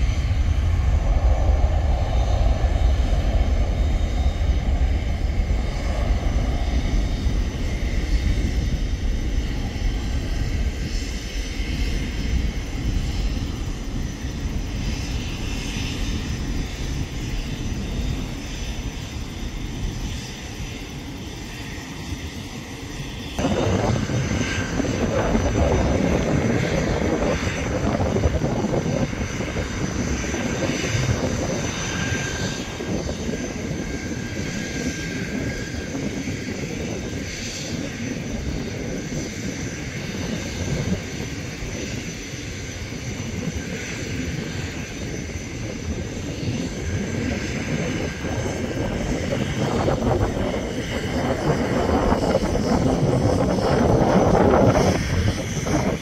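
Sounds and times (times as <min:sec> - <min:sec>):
jet engine rumble with whine: 0:00.0 - 0:56.0.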